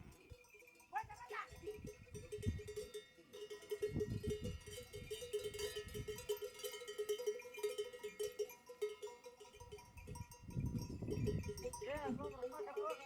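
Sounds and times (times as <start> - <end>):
sheep bells clanking: 0.0 - 13.0.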